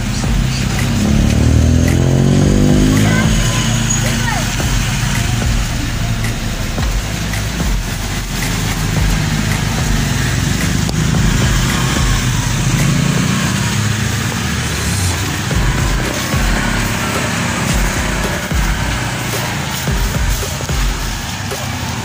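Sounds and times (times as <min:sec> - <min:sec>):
street noise: 0:00.0 - 0:22.0
vehicle engine idling: 0:00.0 - 0:22.0.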